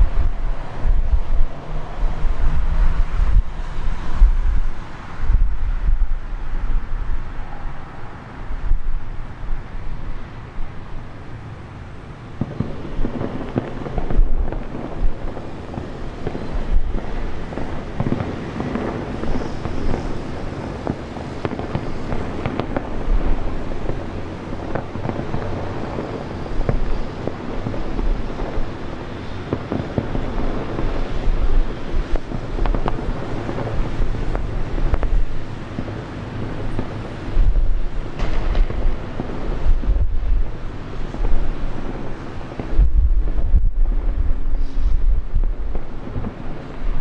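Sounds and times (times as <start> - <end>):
deep fireworks booms: 0.0 - 11.3, 11.9 - 47.0
fireworks crackling: 0.0 - 47.0.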